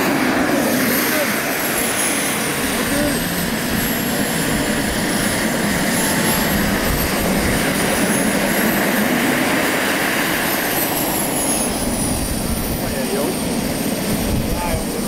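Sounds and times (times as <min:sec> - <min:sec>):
model aircraft engine whining: 0:00.0 - 0:15.0.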